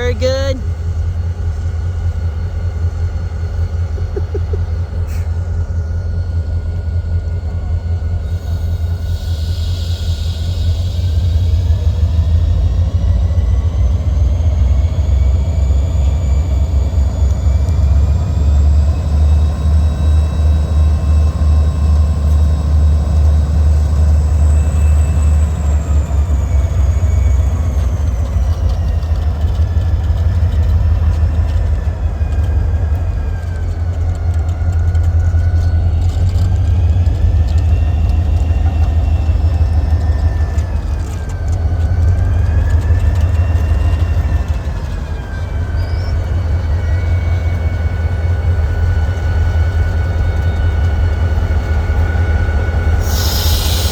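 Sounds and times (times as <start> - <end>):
diesel locomotive rumble: 0.0 - 53.9.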